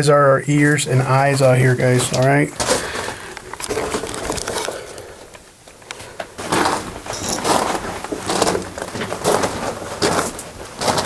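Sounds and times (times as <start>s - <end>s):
footsteps on gravel: 0.5s - 4.9s, 6.4s - 11.0s.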